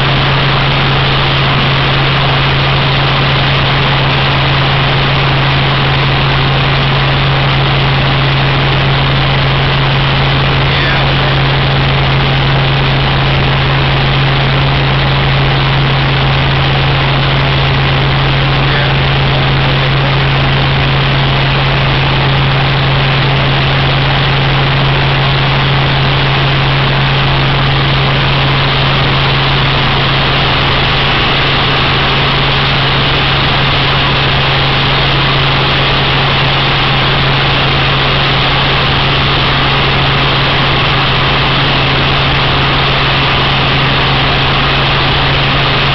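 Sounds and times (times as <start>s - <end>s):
helicopter engine and rotors droning: 0.0s - 45.9s.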